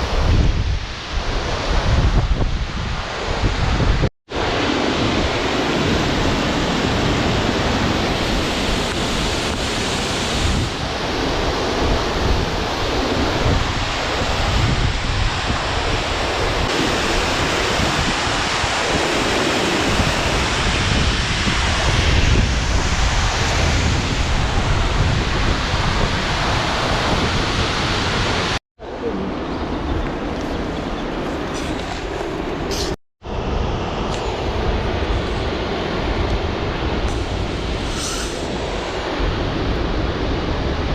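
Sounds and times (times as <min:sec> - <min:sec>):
rushing water roar: 0:00.0 - 0:40.9
wind buffeting microphone: 0:00.0 - 0:40.9.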